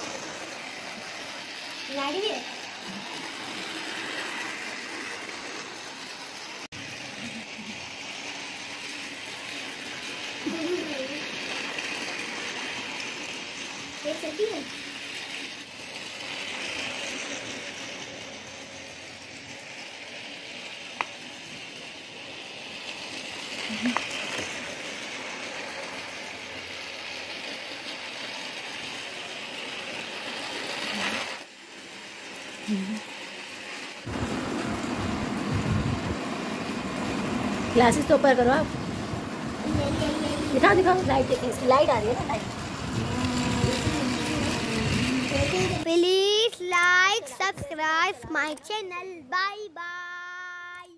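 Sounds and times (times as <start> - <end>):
toy train whirring: 0.0 - 50.9.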